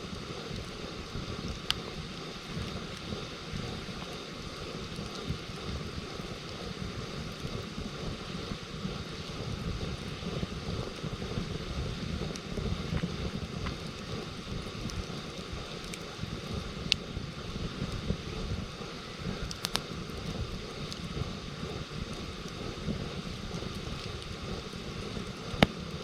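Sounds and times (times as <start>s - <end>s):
campfire crackling pops: 0.0s - 26.0s
wind rumble on microphone: 0.0s - 26.0s.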